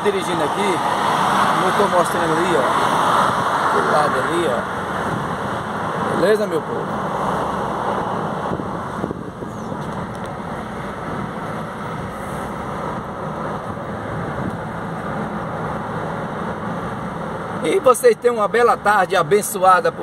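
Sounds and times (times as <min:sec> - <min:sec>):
car engine and tyre rumble: 0:00.0 - 0:20.0
wind: 0:00.0 - 0:20.0.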